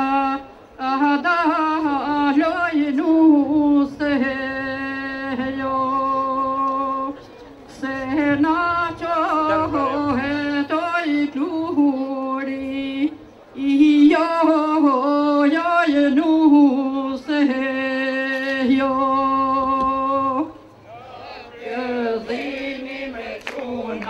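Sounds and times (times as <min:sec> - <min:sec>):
person singing folk song: 0:00.0 - 0:24.0.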